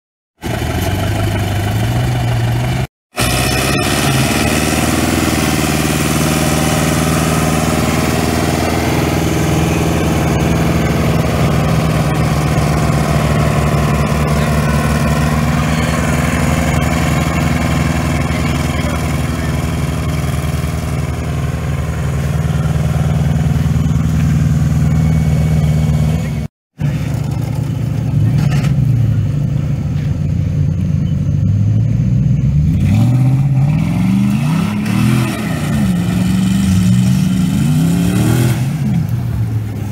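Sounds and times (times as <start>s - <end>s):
tractor engine running: 0.4s - 33.1s.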